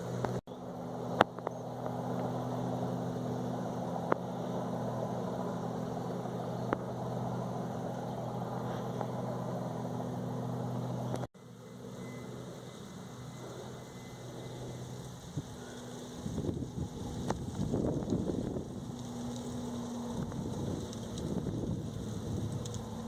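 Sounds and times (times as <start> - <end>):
bulldozer diesel engine idling: 0.0 - 23.0.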